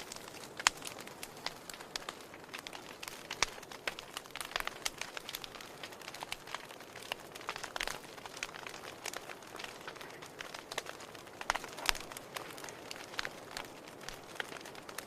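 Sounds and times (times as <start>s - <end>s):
soft fire hiss: 0.0s - 15.0s
wood fire crackling: 0.0s - 15.0s.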